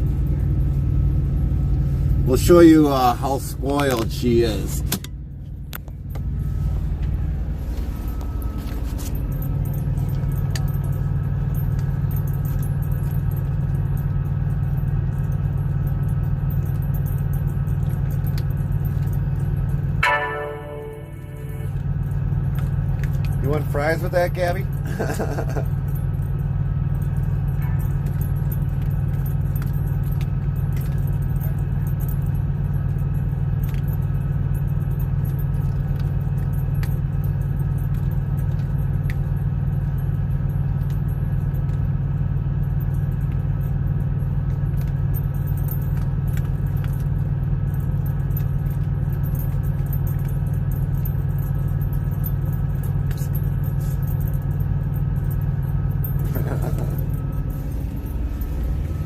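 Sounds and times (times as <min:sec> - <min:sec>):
faint clicks and jingles: 0:00.0 - 0:59.0
vehicle engine idling: 0:00.0 - 0:59.0.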